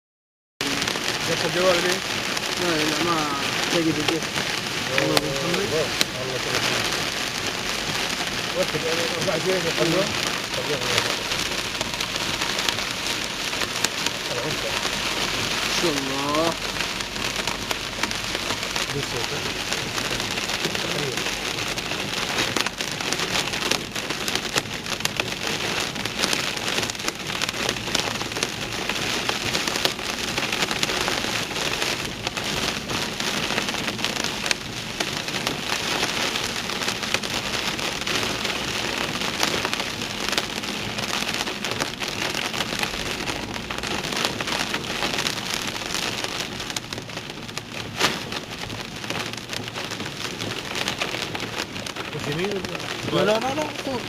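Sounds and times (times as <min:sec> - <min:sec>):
heavy rain on a car: 0:00.6 - 0:54.0.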